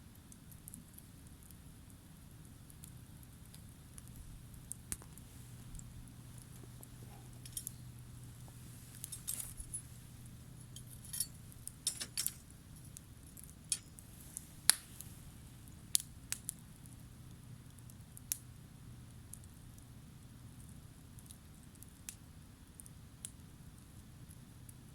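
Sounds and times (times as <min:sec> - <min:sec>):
campfire crackling: 0:00.0 - 0:24.9
low background hum: 0:00.0 - 0:24.9.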